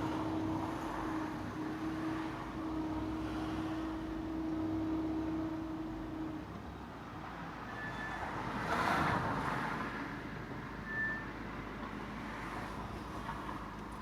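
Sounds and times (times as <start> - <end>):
road and tyre rush: 0.0 - 14.0.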